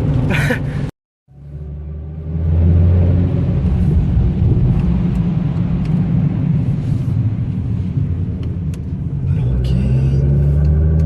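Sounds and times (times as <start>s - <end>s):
car engine deep drone: 0.0s - 11.0s.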